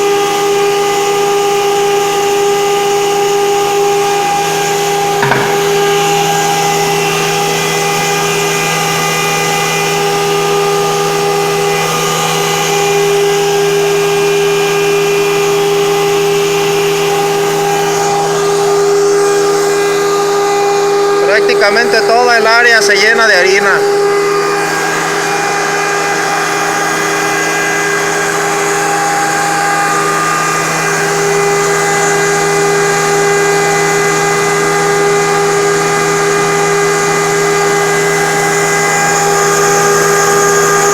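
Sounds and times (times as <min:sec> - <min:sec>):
flour mill whining: 0:00.0 - 0:40.9.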